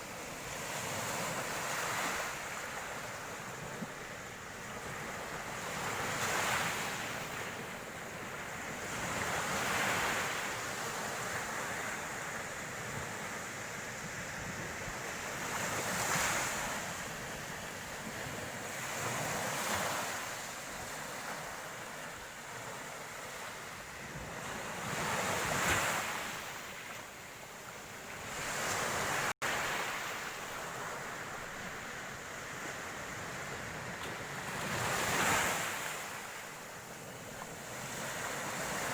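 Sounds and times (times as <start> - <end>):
surf breaking on a beach: 0.0 - 38.9.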